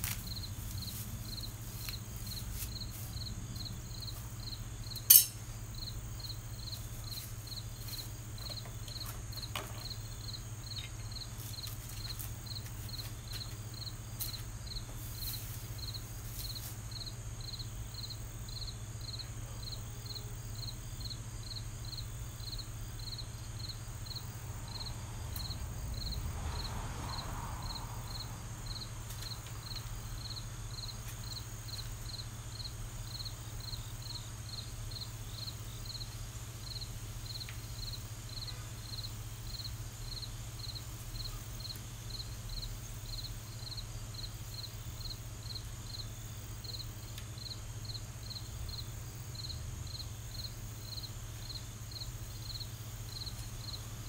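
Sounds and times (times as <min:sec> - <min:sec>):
insect chirping: 0:00.0 - 0:54.0
low steady hum: 0:00.0 - 0:54.0.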